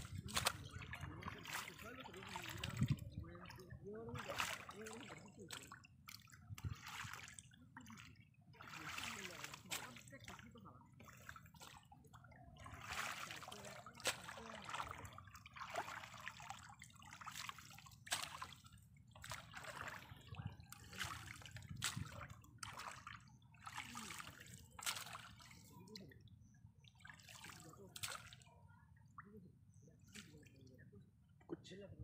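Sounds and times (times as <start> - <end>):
muddy water sloshing and trickling: 0.0 - 32.0.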